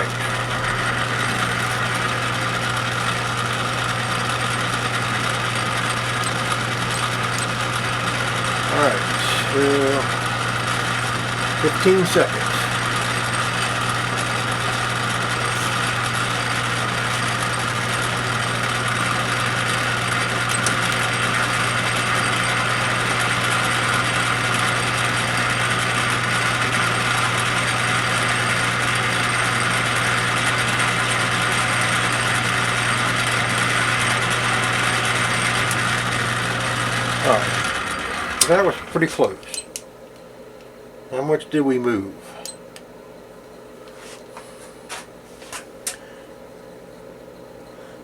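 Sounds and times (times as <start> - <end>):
metal lathe running: 0.0 - 39.8.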